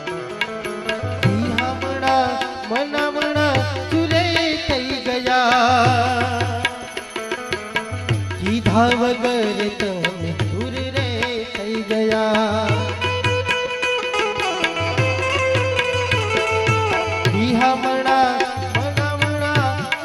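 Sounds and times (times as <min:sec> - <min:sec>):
man singing: 0:00.0 - 0:13.7, 0:15.8 - 0:20.0
harmonium: 0:00.0 - 0:20.0
tabla strokes: 0:00.0 - 0:20.0.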